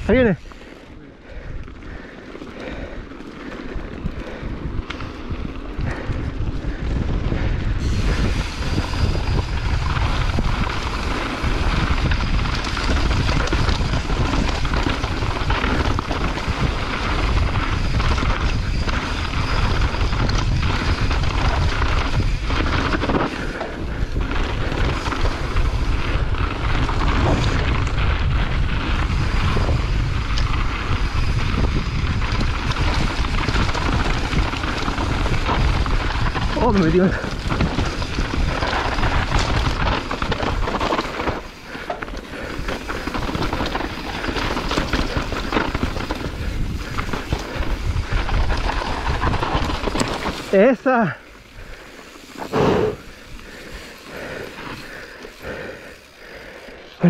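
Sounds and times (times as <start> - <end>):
wind buffeting microphone: 0.0 - 56.6
bike rattling over bumps: 0.0 - 57.0
tyres on loose dirt and rocks: 0.0 - 57.0.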